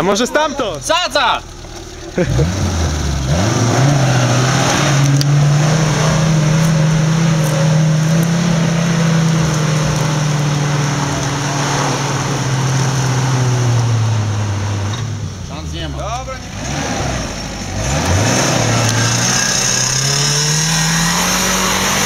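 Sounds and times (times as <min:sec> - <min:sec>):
car engine revving under load: 0:00.0 - 0:22.0.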